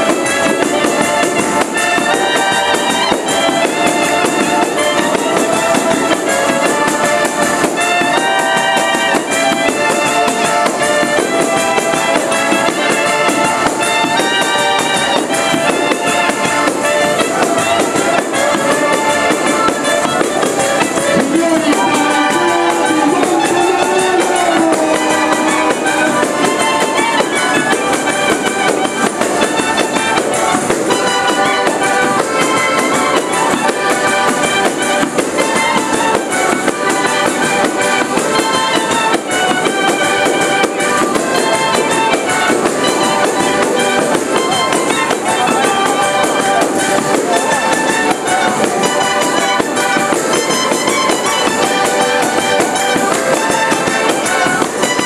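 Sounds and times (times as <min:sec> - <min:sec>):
accordions: 0:00.0 - 0:55.0
fast clicking percussion: 0:00.0 - 0:55.0
reed woodwind melody: 0:00.0 - 0:55.0
trumpet: 0:00.0 - 0:55.0.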